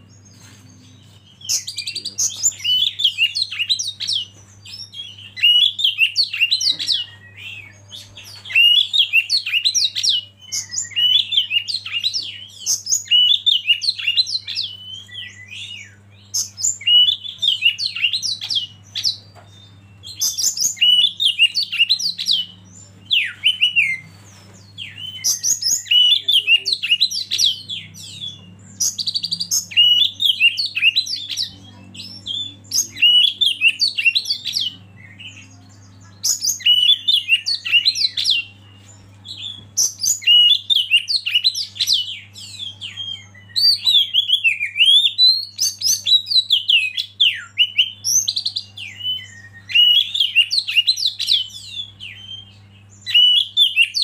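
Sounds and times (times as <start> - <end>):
faint low hum: 0.0 - 53.8
bird singing whistled phrases: 1.4 - 24.1, 24.8 - 38.6, 39.3 - 54.0.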